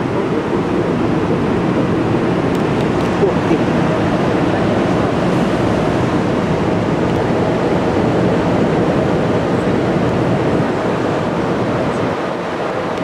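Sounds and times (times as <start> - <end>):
water roaring from dam spillway: 0.0 - 13.0.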